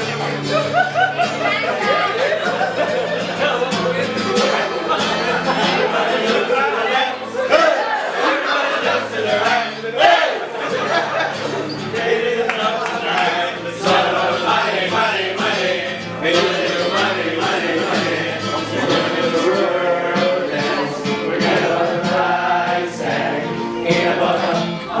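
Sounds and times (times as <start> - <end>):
choir singing with music: 0.0 - 25.0.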